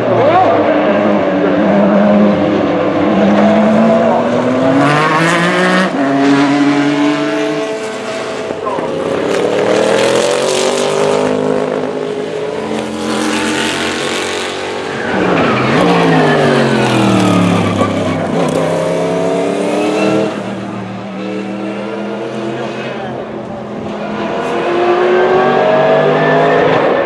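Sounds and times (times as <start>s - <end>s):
race car engines at high revs: 0.0s - 27.0s.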